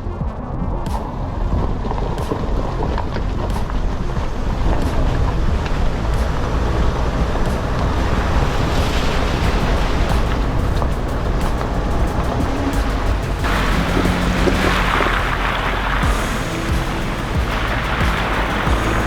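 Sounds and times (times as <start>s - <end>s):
van rumbling over rough ground: 0.5s - 19.0s.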